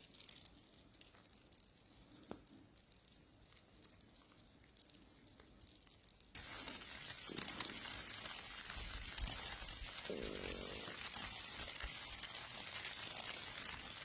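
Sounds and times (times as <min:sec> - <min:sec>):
crackling sizzling hiss: 0:00.0 - 0:14.0
faint background noise: 0:00.0 - 0:14.0.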